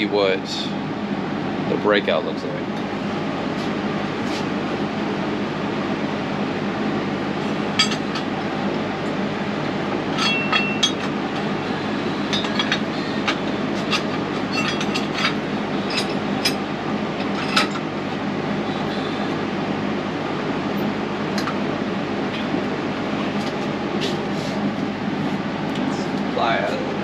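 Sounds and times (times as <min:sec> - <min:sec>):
fan humming: 0:00.0 - 0:27.0.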